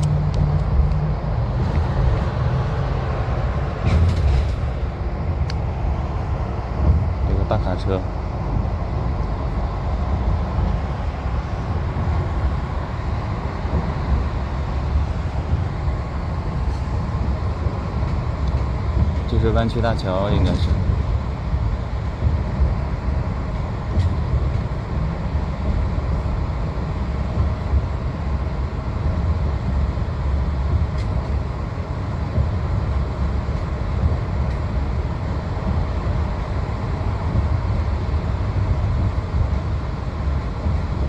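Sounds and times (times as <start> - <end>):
coach engine drone: 0.0 - 41.0
tyre and road noise: 0.0 - 41.0.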